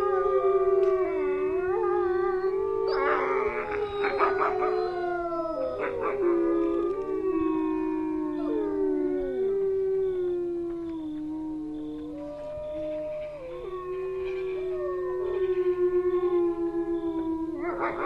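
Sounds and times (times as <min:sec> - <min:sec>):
wolves howling: 0:00.0 - 0:18.0.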